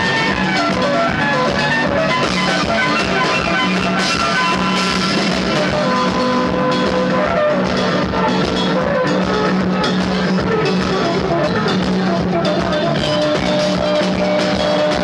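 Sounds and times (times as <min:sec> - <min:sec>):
rock band playing loudly: 0:00.0 - 0:15.0.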